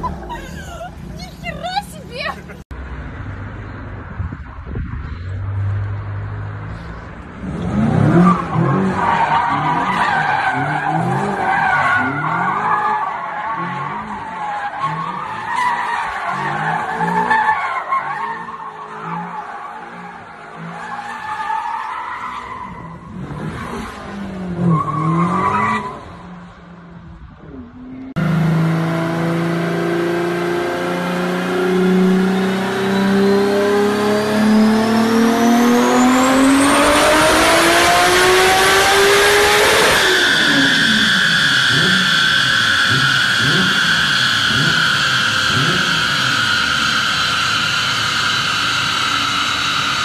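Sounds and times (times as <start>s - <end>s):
car engines revving: 0.0s - 50.0s
tyres skidding: 4.4s - 50.0s.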